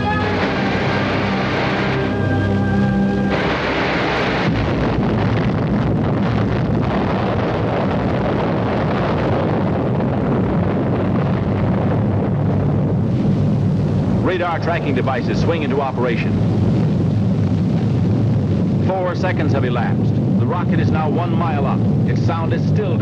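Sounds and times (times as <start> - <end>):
rocket motor roaring: 0.0 - 18.8.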